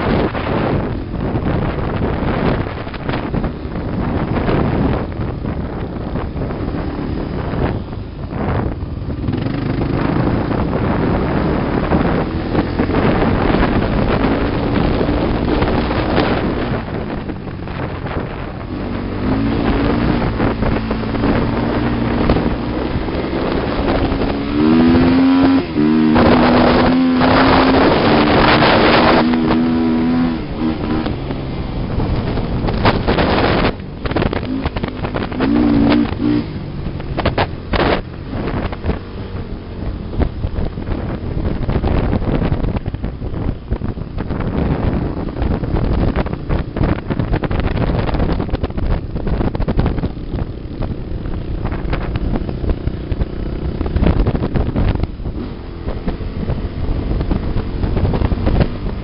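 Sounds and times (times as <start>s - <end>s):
off-road vehicle engine revving: 0.0s - 59.0s
wind buffeting microphone: 0.0s - 59.0s.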